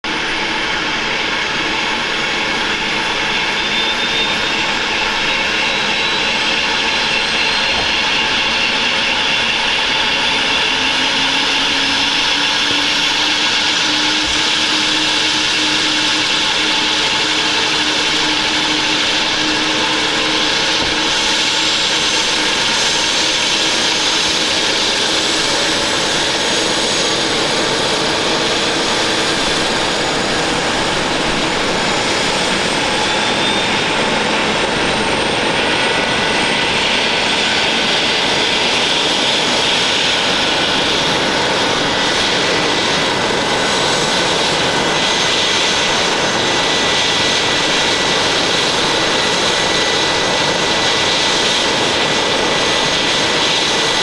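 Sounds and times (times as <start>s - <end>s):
helicopter engine whine: 0.0s - 54.0s
helicopter rotor rushing: 0.0s - 54.0s.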